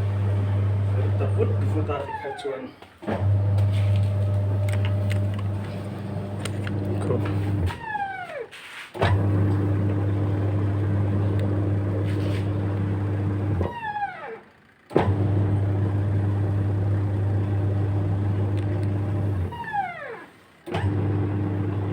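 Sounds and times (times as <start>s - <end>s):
washing machine motor humming: 0.0s - 14.3s, 14.9s - 21.9s
motor winding down whine: 0.0s - 21.9s.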